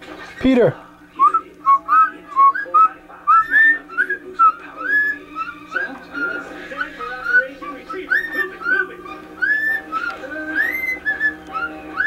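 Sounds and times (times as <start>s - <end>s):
cockatiel whistling: 1.2s - 12.0s.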